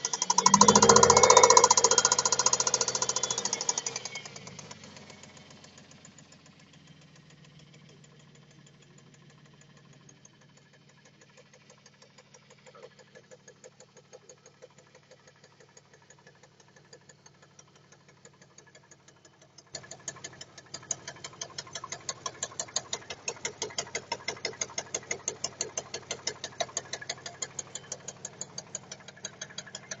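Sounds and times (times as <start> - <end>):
car engine knocking: 0.0 - 30.0.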